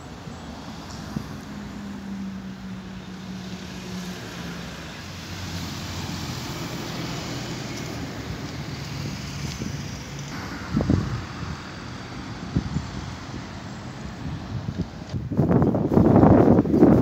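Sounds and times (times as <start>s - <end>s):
car engine hum: 0.0s - 17.0s
passing traffic rush: 0.0s - 17.0s.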